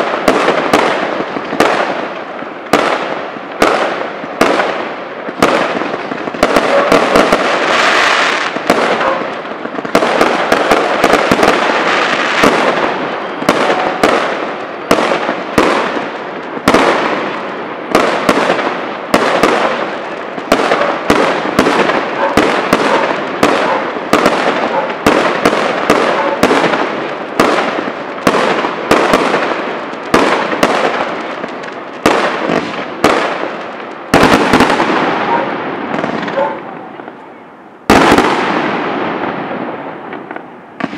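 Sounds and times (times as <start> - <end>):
fireworks bursting with sharp bangs: 0.0 - 40.9
fireworks crackling: 0.0 - 40.9.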